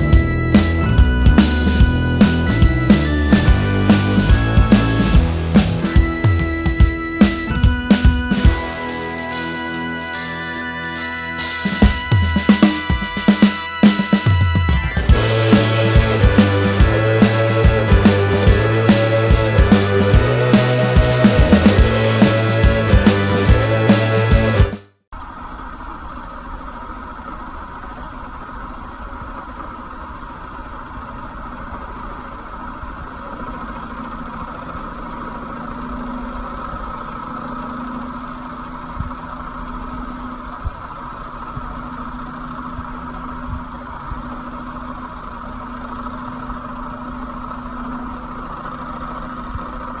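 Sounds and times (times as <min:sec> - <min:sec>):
two-stroke engine idling: 0:00.0 - 0:50.0.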